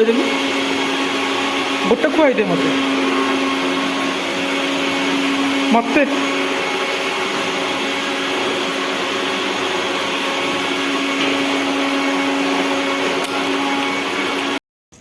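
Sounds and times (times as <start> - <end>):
electric motor droning: 0.0 - 14.6.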